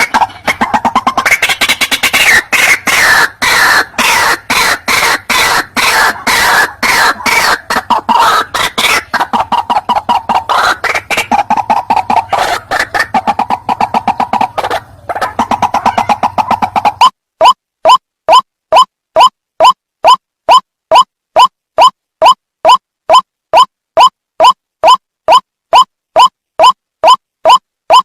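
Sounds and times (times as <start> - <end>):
bird calling rapidly: 0.0 - 28.0.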